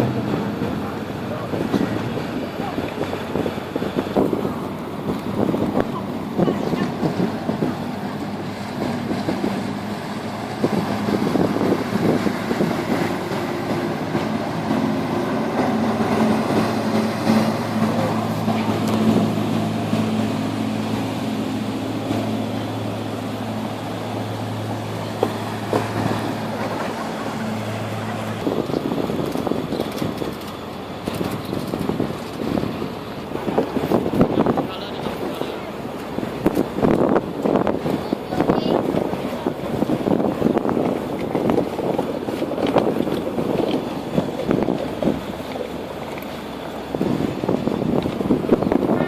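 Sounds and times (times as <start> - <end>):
low engine hum: 0.0 - 49.0.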